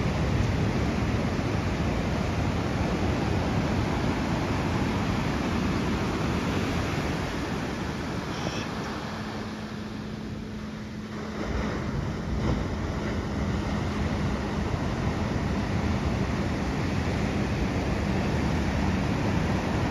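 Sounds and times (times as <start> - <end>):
ocean surf breaking on a beach: 0.0 - 19.9.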